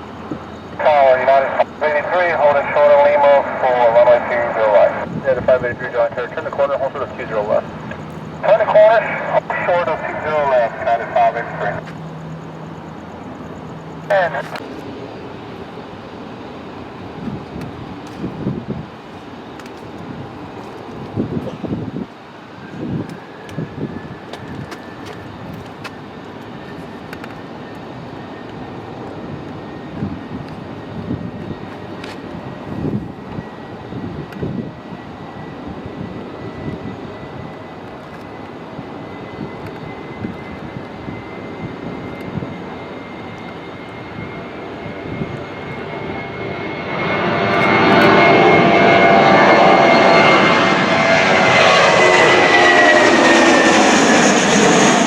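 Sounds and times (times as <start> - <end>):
jet roar: 0.0 - 55.0
jet turbine whine: 0.0 - 55.0.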